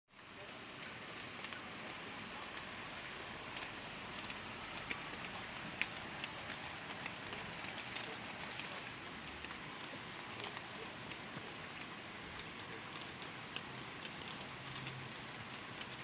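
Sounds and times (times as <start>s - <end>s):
drops ticking on a surface: 0.1s - 16.0s
rain hissing: 0.1s - 16.0s.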